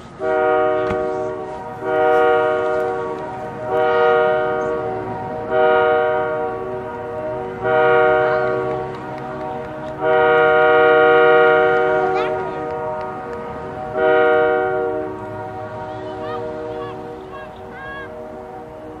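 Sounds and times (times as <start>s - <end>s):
locomotive air horn blasts: 0.0s - 19.0s.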